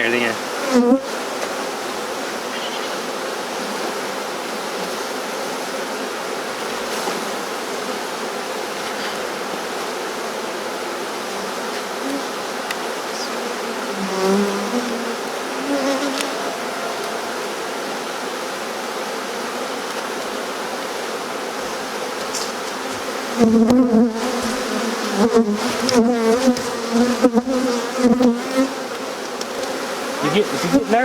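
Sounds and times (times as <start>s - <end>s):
bee swarm buzzing: 0.0s - 31.0s.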